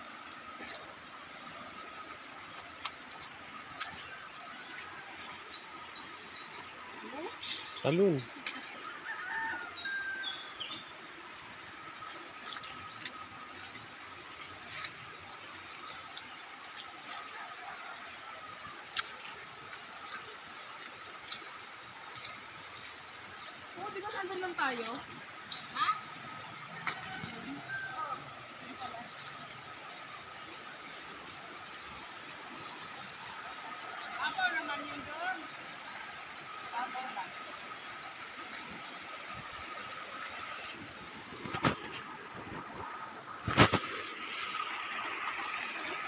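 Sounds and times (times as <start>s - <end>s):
river rushing: 0.0s - 46.0s.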